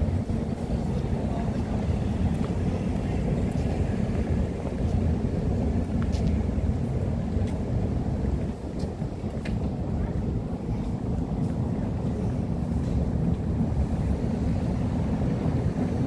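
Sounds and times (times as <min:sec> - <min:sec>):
street ambience: 0:00.0 - 0:16.0
wind buffeting microphone: 0:00.0 - 0:16.0.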